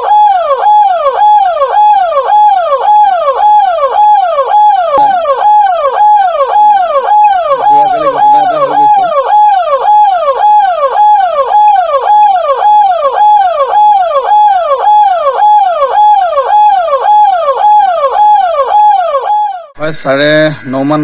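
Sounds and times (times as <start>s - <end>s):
ambulance siren wailing: 0.0s - 19.8s.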